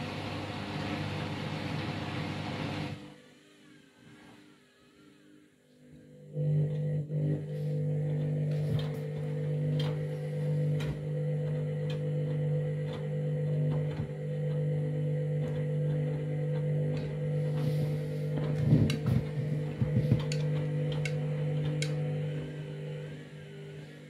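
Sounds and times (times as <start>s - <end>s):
washing machine motor humming: 0.0s - 3.1s, 6.1s - 24.0s.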